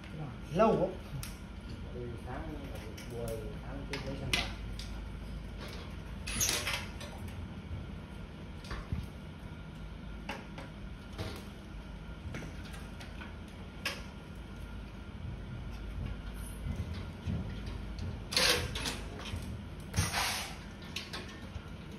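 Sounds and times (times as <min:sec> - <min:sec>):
low background hum: 0:00.0 - 0:21.9.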